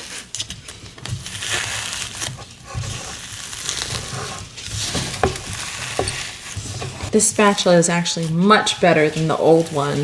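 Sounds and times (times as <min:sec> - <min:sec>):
slime being mixed with spatula: 0:00.0 - 0:10.0.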